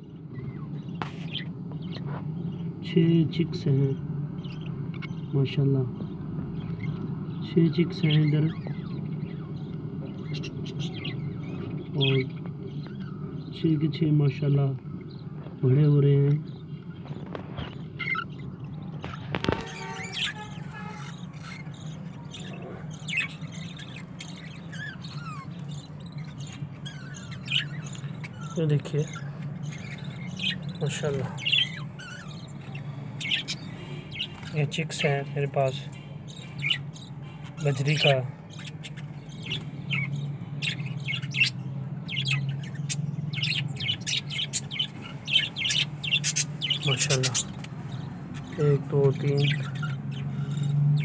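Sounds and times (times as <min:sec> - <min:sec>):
budgerigars chirping and squawking: 0:00.0 - 0:51.0
steady low hum: 0:00.0 - 0:51.0.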